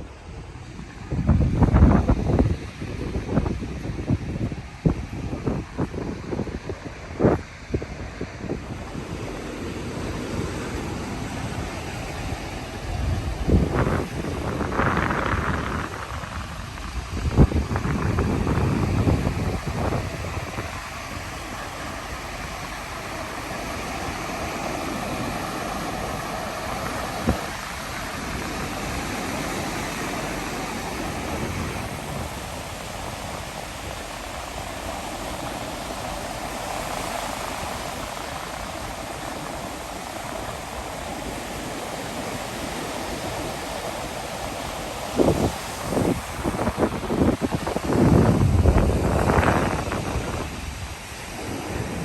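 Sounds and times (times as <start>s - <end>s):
ocean surf rushing: 0.0s - 52.0s
wind buffeting microphone: 0.0s - 52.0s.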